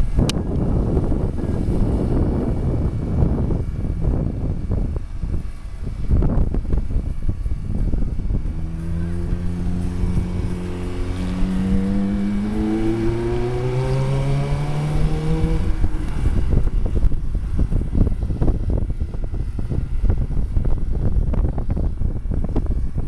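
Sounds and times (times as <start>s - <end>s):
car engine accelerating: 0.0s - 19.4s
wind buffeting microphone: 0.0s - 23.0s.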